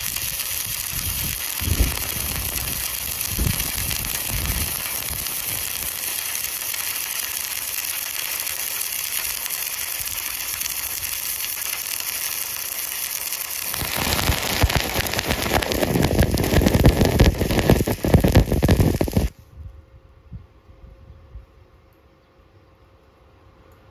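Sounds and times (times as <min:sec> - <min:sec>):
arc welding sizzle and crackle: 0:00.0 - 0:19.4.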